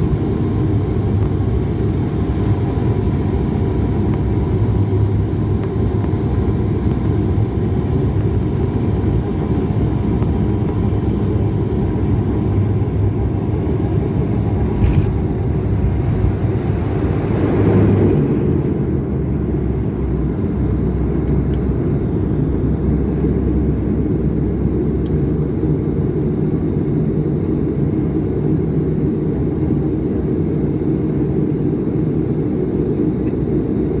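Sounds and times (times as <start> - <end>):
propeller plane engines droning: 0.0 - 34.0.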